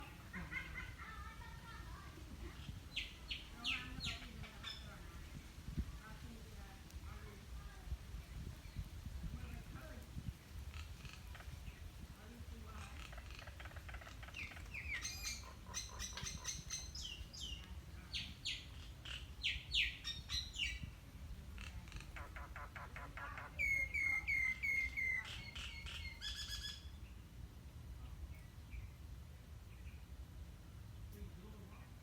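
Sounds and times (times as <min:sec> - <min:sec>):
small birds chirping: 0:00.0 - 0:27.3.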